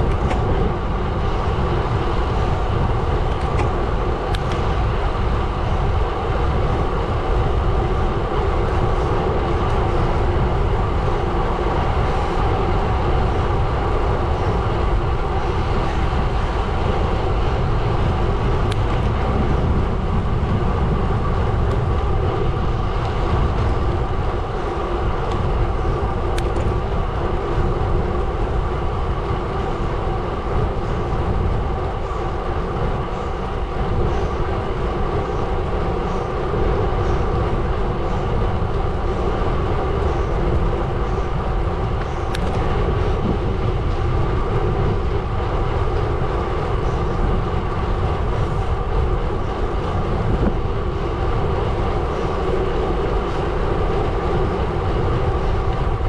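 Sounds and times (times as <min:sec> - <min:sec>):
bike tyres rolling on gravel: 0:00.0 - 0:56.0.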